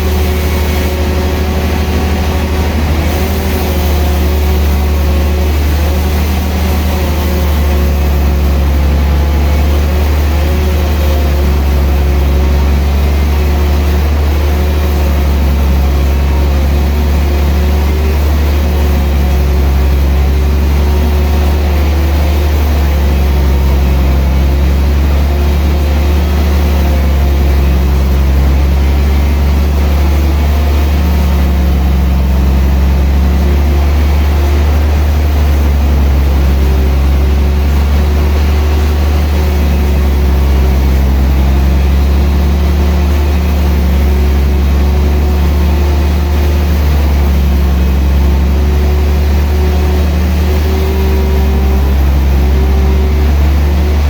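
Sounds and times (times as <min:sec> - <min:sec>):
saw motor humming and whining: 0:00.0 - 0:54.0.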